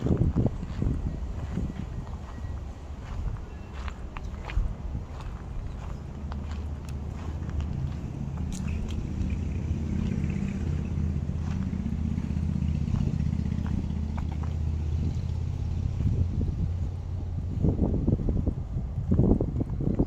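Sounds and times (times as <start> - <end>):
motor engine humming: 0.0 - 20.0.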